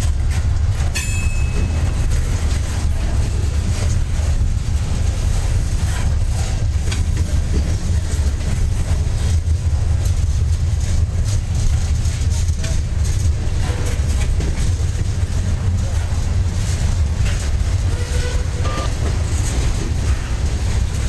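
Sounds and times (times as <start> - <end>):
freight cars rumbling: 0.0 - 21.0
wheels clicking on rails: 0.0 - 21.0.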